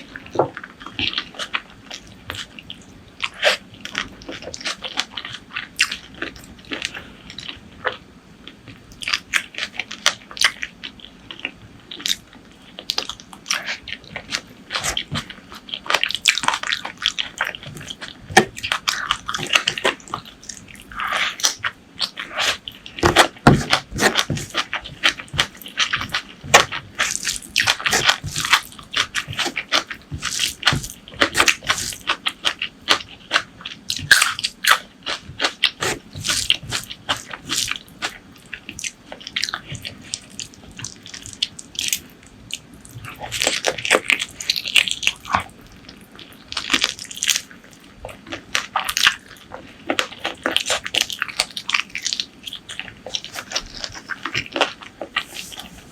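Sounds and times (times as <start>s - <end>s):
wet chewing and biting: 0.0s - 55.9s.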